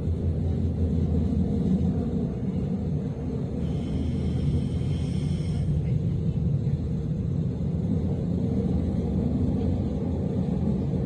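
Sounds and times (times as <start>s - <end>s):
train rumble from inside: 0.0s - 11.0s.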